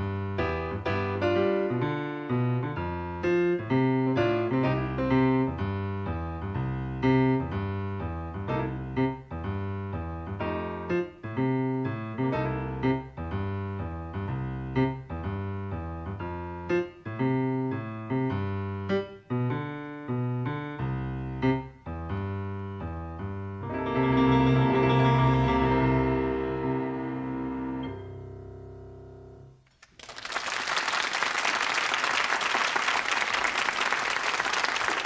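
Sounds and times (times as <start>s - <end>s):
jazz keyboard chords and melody: 0.0s - 29.6s
bass: 0.0s - 29.7s.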